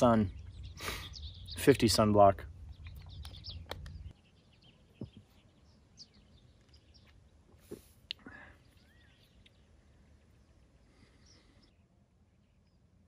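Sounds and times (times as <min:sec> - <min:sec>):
faint bird chirps: 0:00.1 - 0:13.0.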